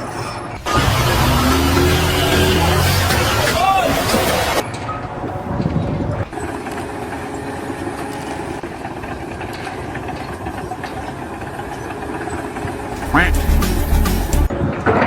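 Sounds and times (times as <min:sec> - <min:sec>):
heavy machine engine running: 0:00.5 - 0:14.6.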